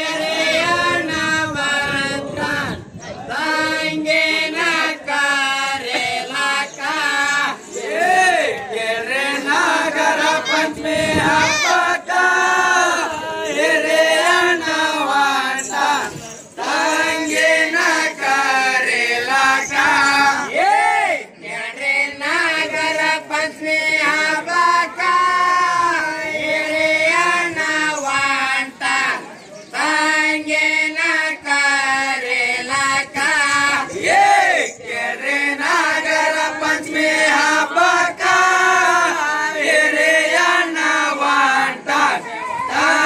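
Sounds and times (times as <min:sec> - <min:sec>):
group of men singing: 0:00.0 - 0:43.0.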